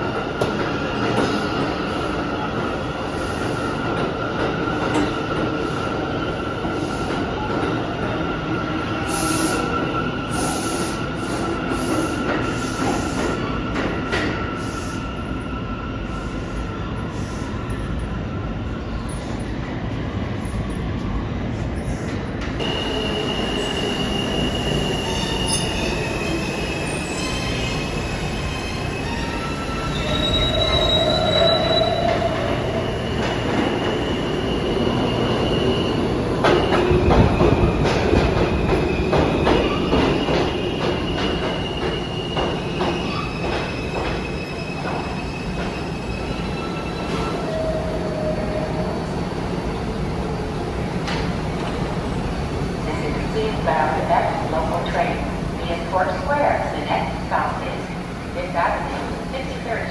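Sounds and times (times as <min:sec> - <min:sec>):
train wheels squealing on rails: 0:00.0 - 0:55.2.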